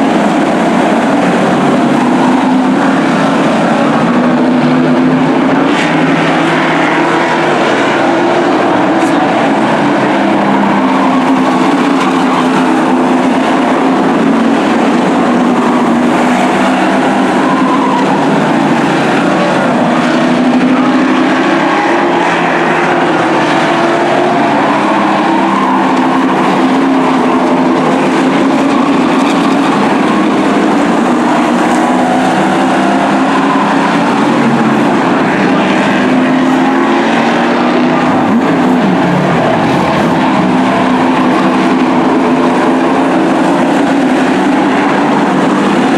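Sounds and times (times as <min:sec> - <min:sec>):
race truck engines: 0:00.0 - 0:45.9.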